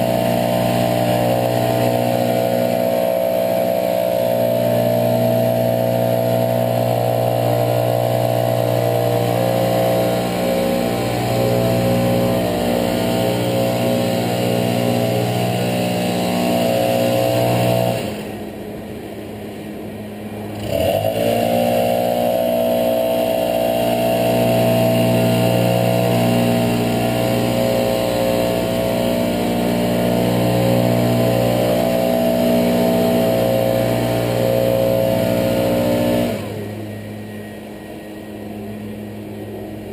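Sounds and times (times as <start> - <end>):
leaf blower running: 0.0 - 39.9.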